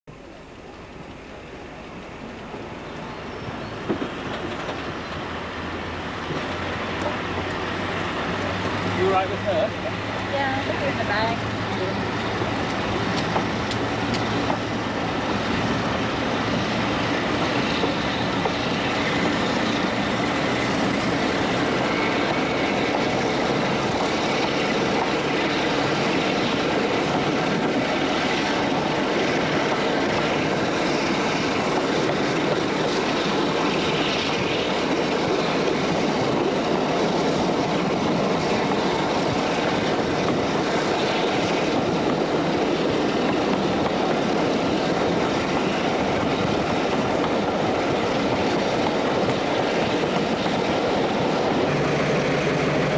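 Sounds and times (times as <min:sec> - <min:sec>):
diesel locomotives pulling: 0:00.1 - 0:52.9
train coaches running noise: 0:00.1 - 0:52.9.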